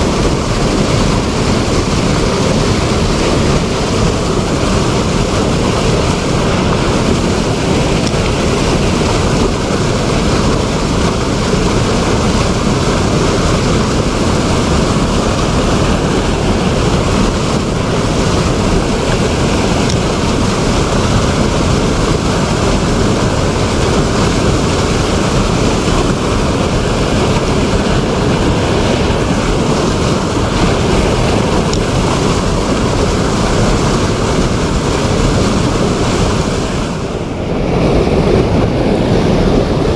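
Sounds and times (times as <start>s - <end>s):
river rushing over rapids: 0.0s - 39.9s.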